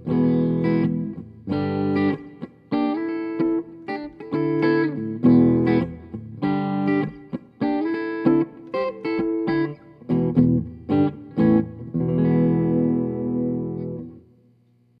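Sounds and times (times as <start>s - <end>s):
electric guitar chords: 0.0s - 14.4s.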